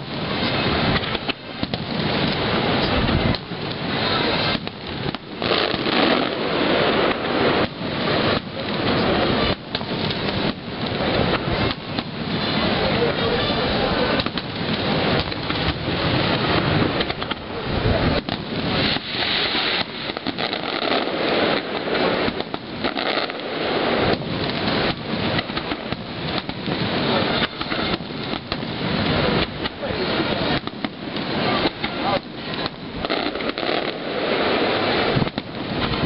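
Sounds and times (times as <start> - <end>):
firework shells bursting: 0.0 - 13.0, 14.0 - 36.0.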